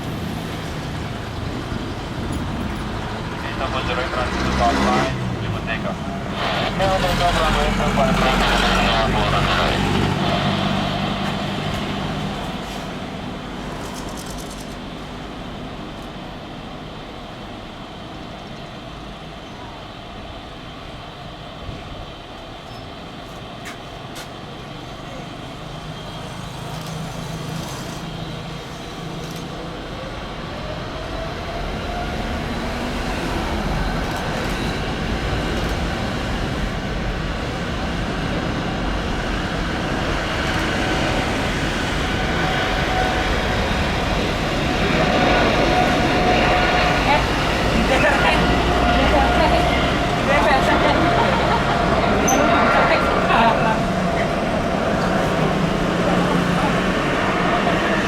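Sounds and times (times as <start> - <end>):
engine whine sliding in pitch: 0.0 - 14.6, 26.0 - 58.0
jet airliner engine noise: 0.0 - 58.0.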